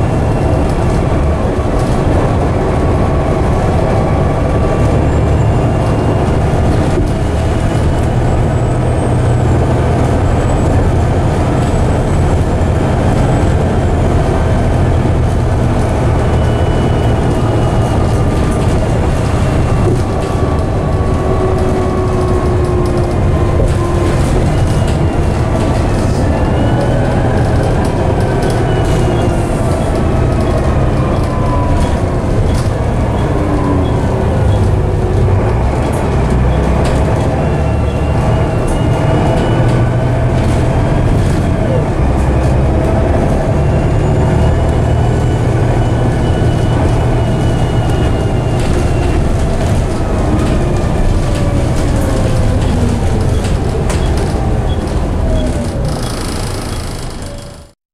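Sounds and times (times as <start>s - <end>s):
bus diesel engine drone: 0.0s - 57.8s.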